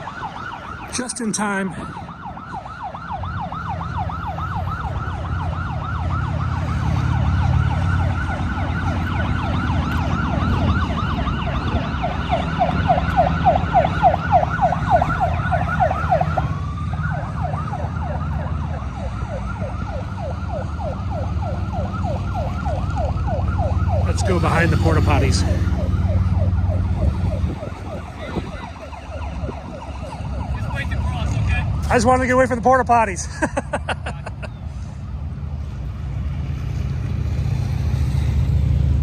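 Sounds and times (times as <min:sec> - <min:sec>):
low rumble of traffic: 0:00.0 - 0:39.0
sirens yelping: 0:00.0 - 0:39.0.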